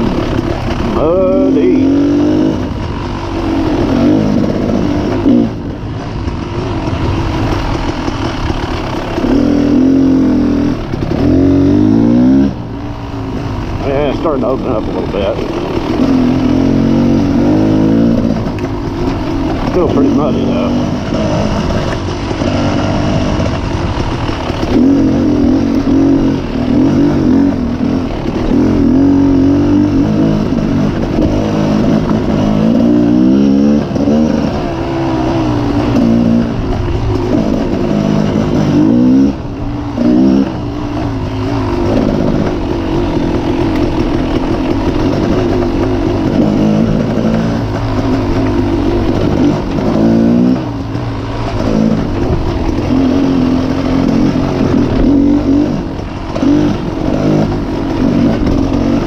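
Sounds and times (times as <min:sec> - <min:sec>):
dirt bike engine running hard: 0:00.0 - 0:59.0.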